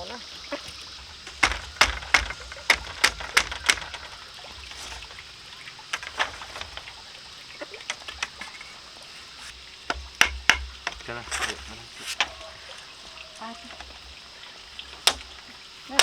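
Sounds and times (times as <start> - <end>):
light knocks: 0.6 - 14.2, 14.8 - 16.0.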